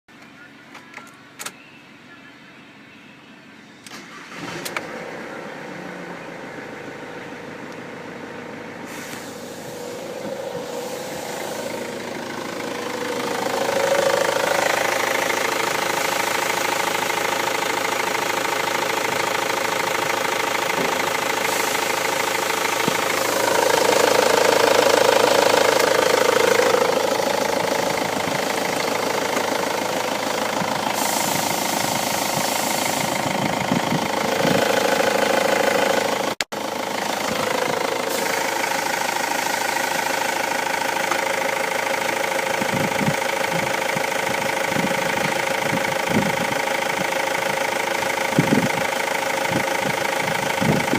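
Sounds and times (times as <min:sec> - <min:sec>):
diesel engine clattering and revving: 0:04.2 - 0:50.9.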